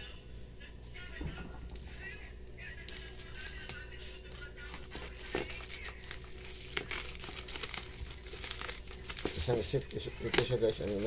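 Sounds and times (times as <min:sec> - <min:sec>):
bubble wrap crinkling: 0:01.0 - 0:11.0.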